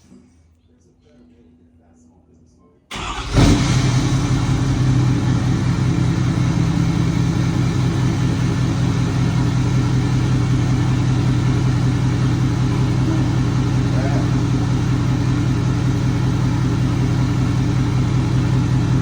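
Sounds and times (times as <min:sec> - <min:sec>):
diesel engine idling: 0:02.9 - 0:19.0.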